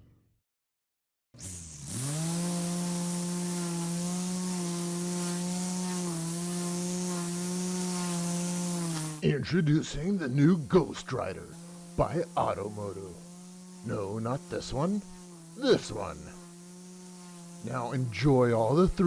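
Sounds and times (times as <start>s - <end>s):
small engine buzzing: 1.4s - 19.0s.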